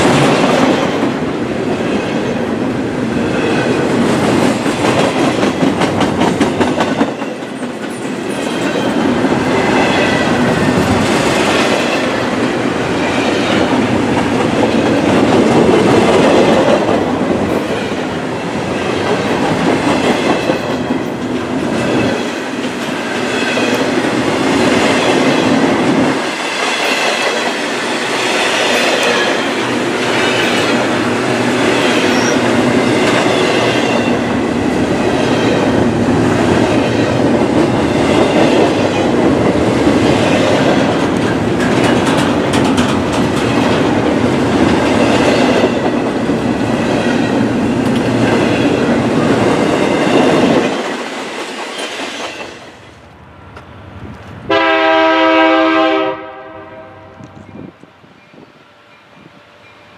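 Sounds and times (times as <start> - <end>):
train wheels clattering: 3.2 - 52.8.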